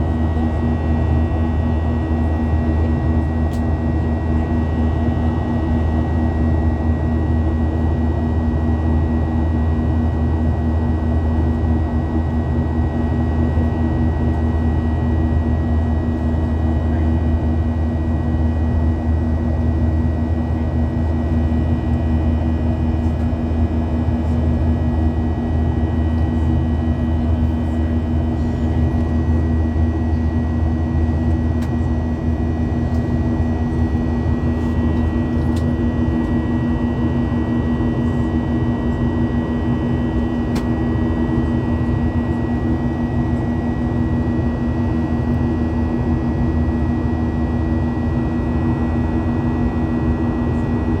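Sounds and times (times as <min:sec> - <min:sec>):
jet cabin engine drone: 0:00.0 - 0:51.0.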